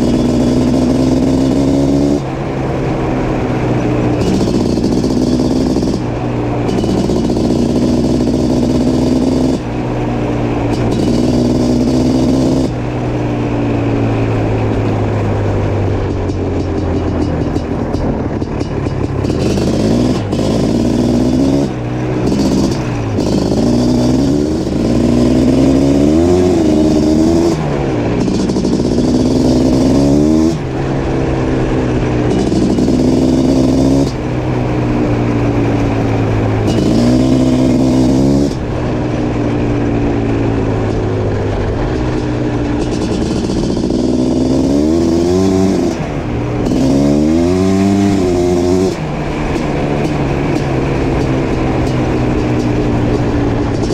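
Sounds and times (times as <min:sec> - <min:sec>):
two-stroke engine revving: 0:00.0 - 0:53.9.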